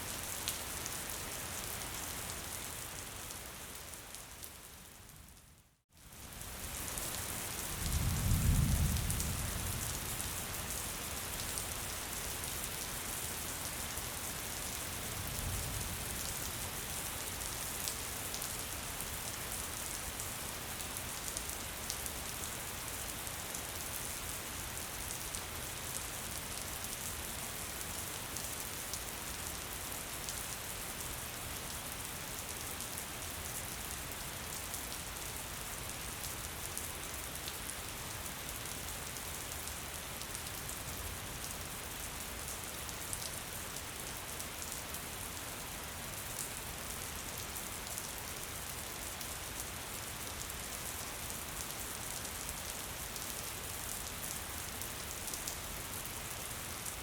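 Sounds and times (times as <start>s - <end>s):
gentle rain falling: 0.0s - 57.0s.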